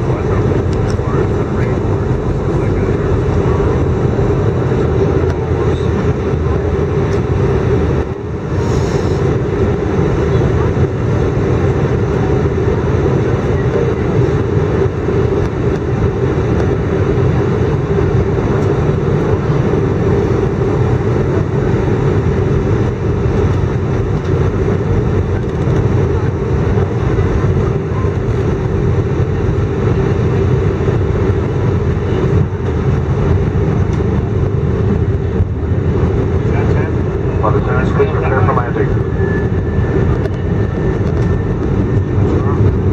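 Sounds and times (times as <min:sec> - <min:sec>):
jet engine drone in cabin: 0:00.0 - 0:42.9
steady low hum: 0:00.0 - 0:42.9.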